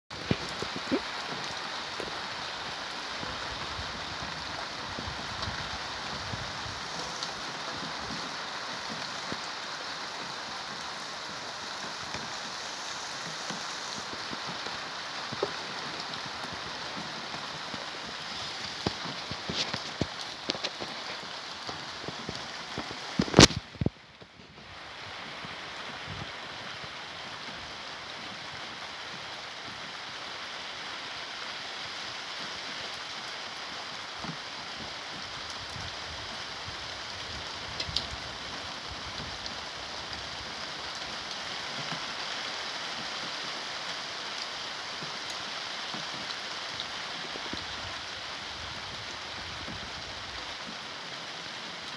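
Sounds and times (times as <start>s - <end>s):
heavy rain: 0.1s - 51.9s.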